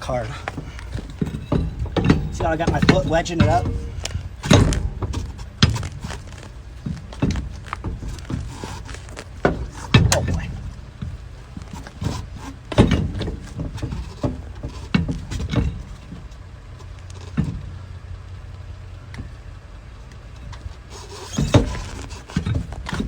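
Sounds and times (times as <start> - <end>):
heavy wheel clunking on hub: 0.0 - 23.0
vehicle engine idling: 0.0 - 23.0.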